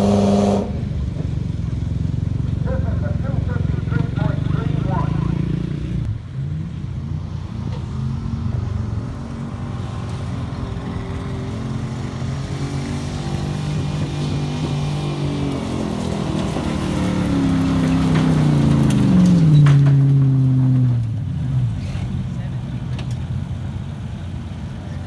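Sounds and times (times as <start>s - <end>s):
truck engine running hard: 0.0s - 25.0s.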